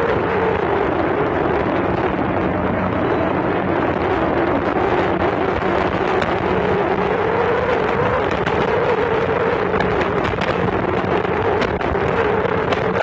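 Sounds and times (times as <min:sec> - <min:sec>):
motorboat engine running: 0:00.0 - 0:13.0
wind noise on microphone: 0:00.0 - 0:13.0.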